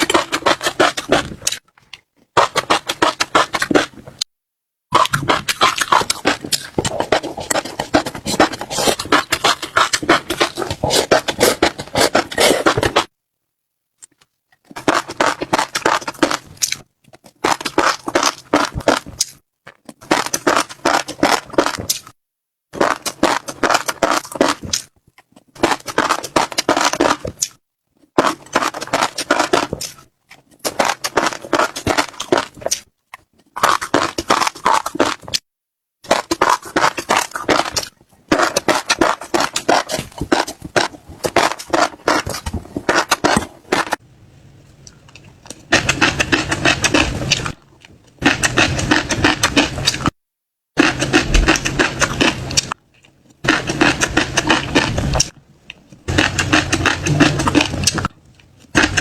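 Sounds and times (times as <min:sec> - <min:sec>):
chewing crunchy seeds: 0:00.0 - 0:04.2, 0:04.9 - 0:13.1, 0:14.0 - 0:35.4, 0:36.0 - 0:44.0, 0:44.8 - 0:50.2, 0:50.8 - 0:59.0.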